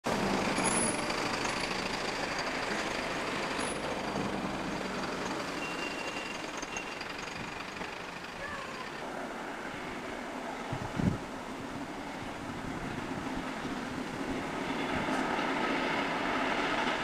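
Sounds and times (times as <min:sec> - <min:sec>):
diesel locomotives passing: 0:00.0 - 0:17.0.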